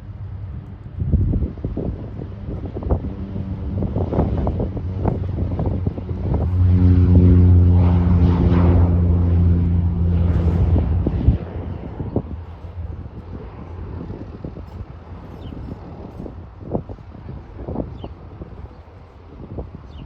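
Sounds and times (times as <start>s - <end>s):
propeller airplane engine: 0.0s - 20.0s
wind buffeting microphone: 0.0s - 20.0s.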